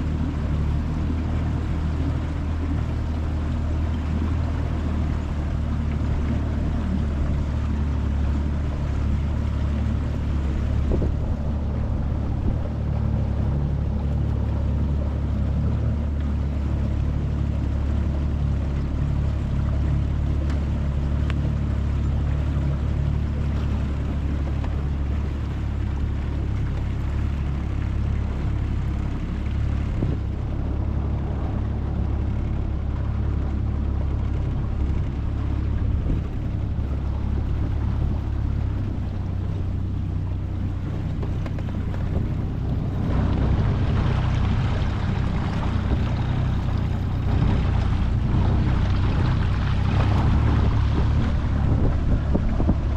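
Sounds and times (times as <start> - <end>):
outboard motor low drone: 0.0 - 52.9.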